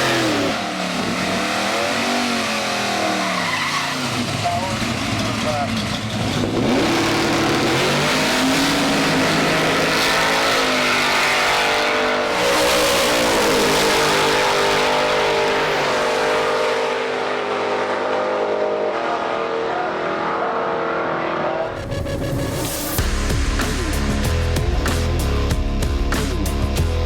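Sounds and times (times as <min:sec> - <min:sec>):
car engine revving hard: 0:00.0 - 0:25.2.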